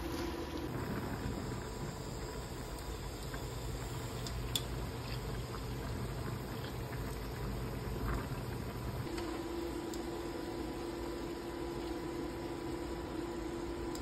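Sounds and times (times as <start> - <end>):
steady hum: 0.0 - 14.0
water boiling in saucepan: 0.0 - 14.0.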